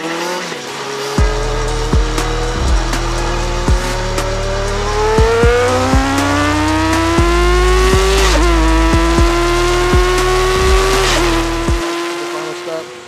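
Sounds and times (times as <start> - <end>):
motorcycle engine accelerating: 0.0 - 13.0
music: 0.0 - 13.0.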